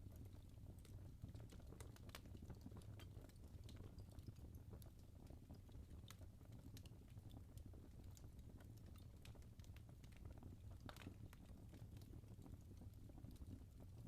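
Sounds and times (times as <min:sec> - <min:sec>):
burning logs crackling: 0:00.0 - 0:14.0
low steady fire rumble: 0:00.0 - 0:14.0.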